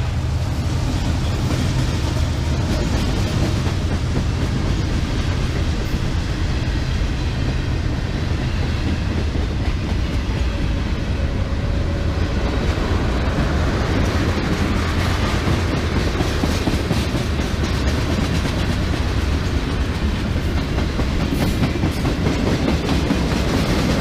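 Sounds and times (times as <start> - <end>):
freight train wheels on rails: 0.0 - 24.0.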